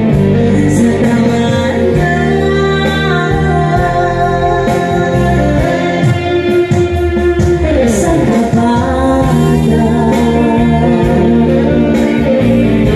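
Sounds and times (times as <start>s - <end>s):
keyboard backing music: 0.0s - 12.9s
woman singing into a microphone: 0.0s - 12.9s.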